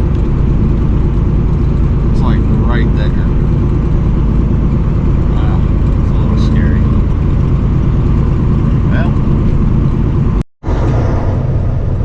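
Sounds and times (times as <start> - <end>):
road noise inside cab: 0.0 - 12.0
truck engine drone: 0.0 - 12.0.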